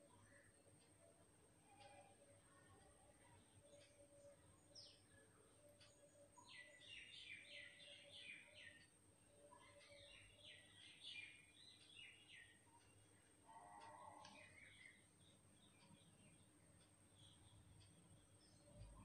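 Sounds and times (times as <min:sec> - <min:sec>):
birds chirping: 0:01.7 - 0:19.0.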